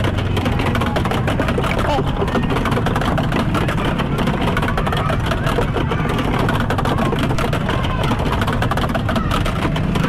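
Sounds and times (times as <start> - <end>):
indistinct voices: 0.0 - 10.0
mechanical rumble: 0.0 - 10.0.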